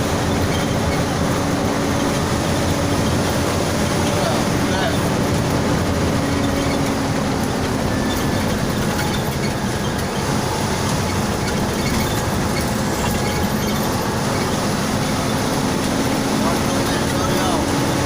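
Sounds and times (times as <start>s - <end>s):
bus engine hum and road rumble: 0.0s - 18.0s.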